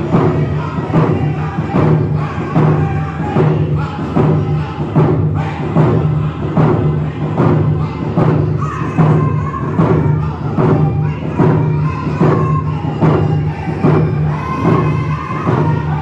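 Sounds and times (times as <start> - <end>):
group singing: 0.0 - 16.0
hand drums beating: 0.0 - 16.0.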